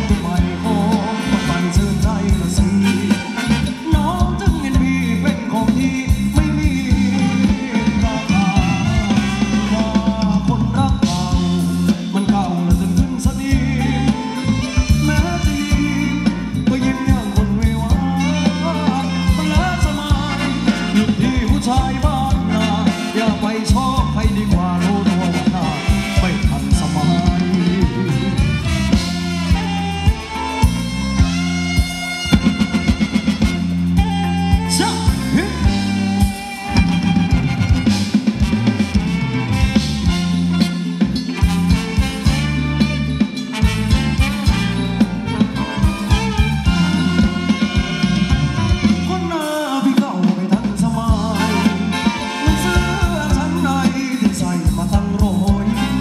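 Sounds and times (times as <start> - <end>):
person singing: 0.0 - 30.8, 34.0 - 37.4, 43.9 - 56.0
live band dance music: 0.0 - 56.0
steady drum beat: 0.0 - 56.0.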